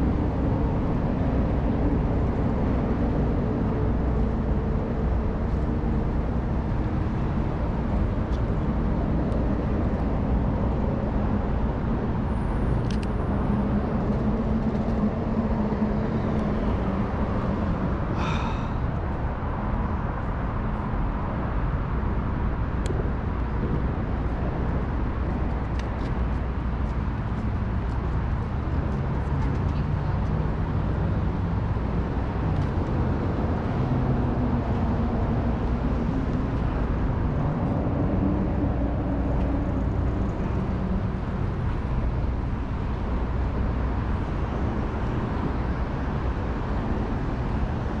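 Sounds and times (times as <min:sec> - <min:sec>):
engine hum: 0:00.0 - 0:48.0
road traffic rumble: 0:00.0 - 0:48.0.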